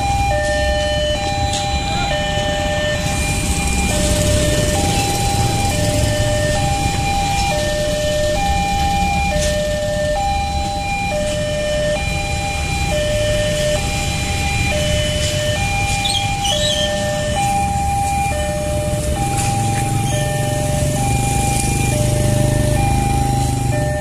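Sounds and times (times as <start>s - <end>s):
road traffic rumble: 0.0s - 24.0s
two-tone crossing alarm: 0.0s - 24.0s.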